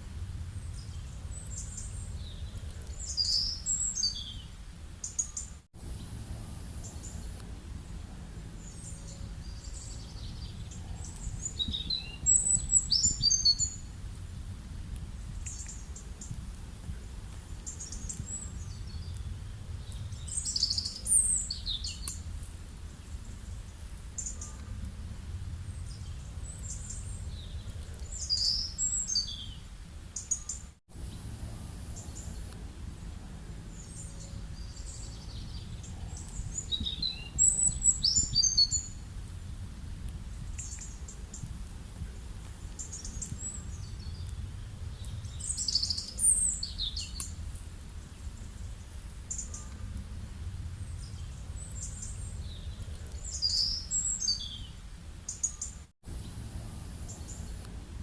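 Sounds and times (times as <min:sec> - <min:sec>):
steady low rumble: 0:00.0 - 0:05.0, 0:05.7 - 0:30.2, 0:30.9 - 0:55.3, 0:56.0 - 0:58.0
birds chirping: 0:00.5 - 0:14.0, 0:15.2 - 0:39.0, 0:40.3 - 0:50.0, 0:50.8 - 0:57.6.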